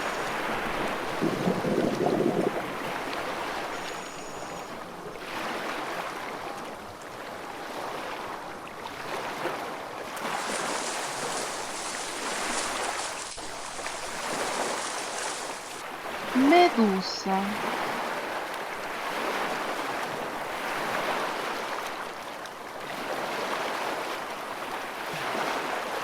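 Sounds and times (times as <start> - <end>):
sea water washing and surging: 0.0 - 26.0.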